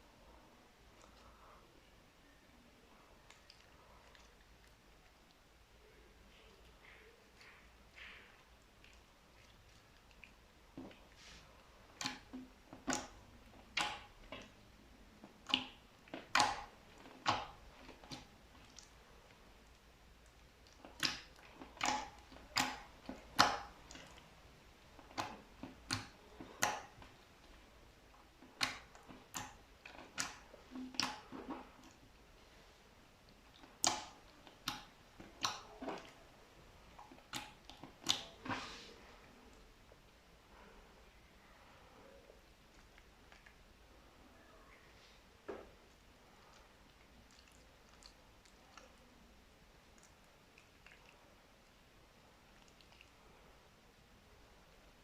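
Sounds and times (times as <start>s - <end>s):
slime squishing with wet pops: 3.1s - 32.4s, 33.0s - 40.3s, 42.4s - 43.9s, 45.6s - 55.0s.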